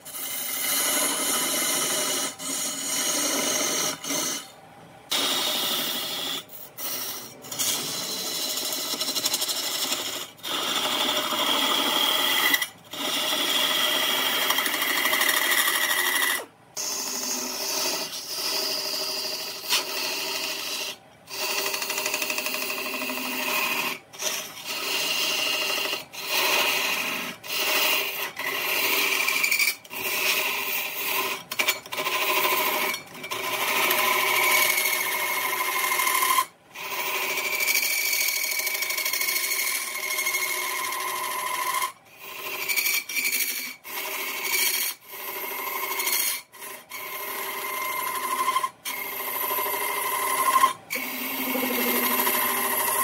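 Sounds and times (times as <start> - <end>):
tool working wood: 0.0 - 53.0.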